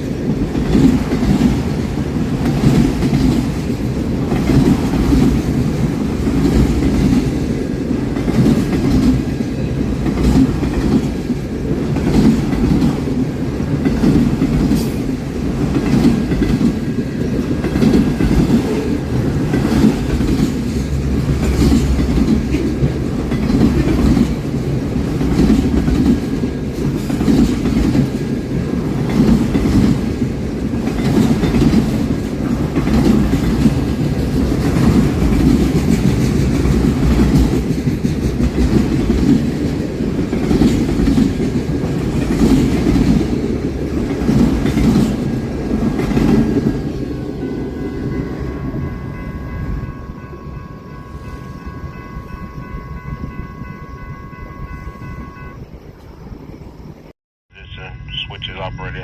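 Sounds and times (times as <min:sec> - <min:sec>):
wheels clacking over rail joints: 0:00.0 - 0:48.2
train cars rumbling past: 0:00.0 - 0:59.0.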